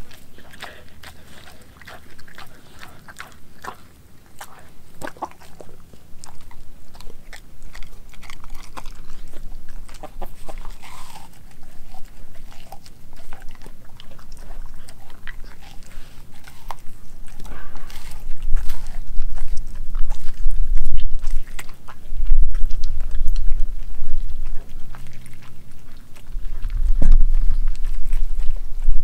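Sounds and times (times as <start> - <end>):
dog chewing raw meat: 0.0 - 29.0.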